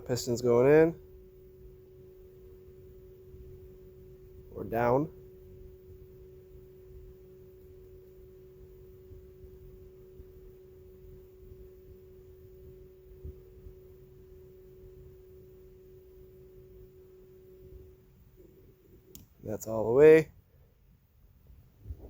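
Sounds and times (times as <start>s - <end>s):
electric actuator motor hum: 0.0s - 20.0s.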